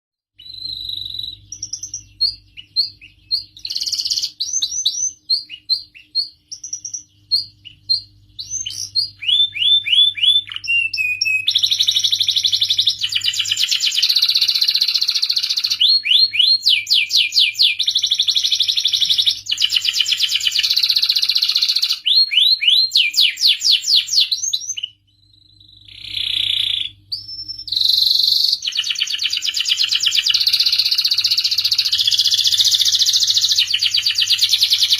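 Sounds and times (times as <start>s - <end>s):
faint low hum: 0.4s - 21.4s, 24.5s - 34.9s
canary singing trills: 0.4s - 34.9s.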